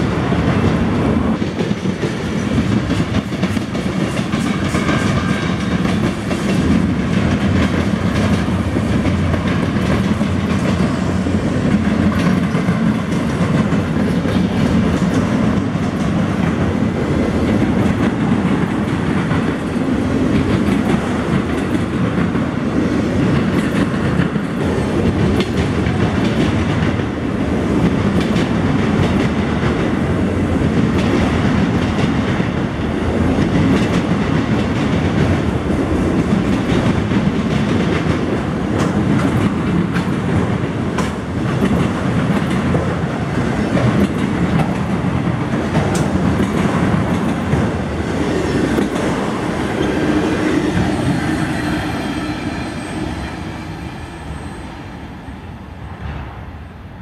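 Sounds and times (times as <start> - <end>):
steel wheels rumbling on rail: 0.0 - 57.0
wheels clacking over rail joints: 0.2 - 54.6.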